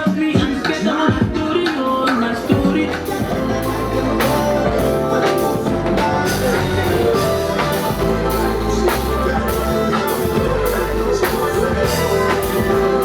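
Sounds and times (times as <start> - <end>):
drum kit beat: 0.0 - 13.0
keyboards: 0.0 - 13.0
bass guitar: 2.2 - 13.0.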